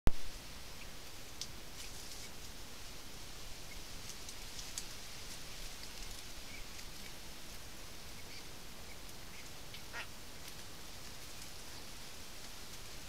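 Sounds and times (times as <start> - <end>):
faint rustling in reeds: 0.2 - 13.0
steady hiss: 0.2 - 13.0.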